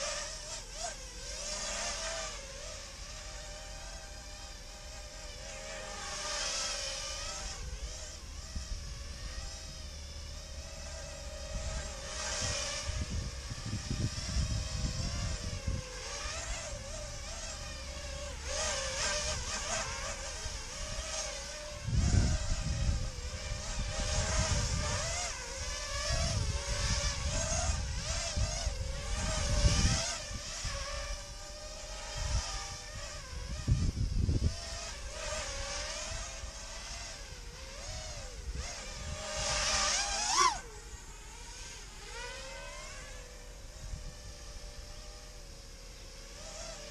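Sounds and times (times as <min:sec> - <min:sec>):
drone motors whining: 0:00.0 - 0:46.9.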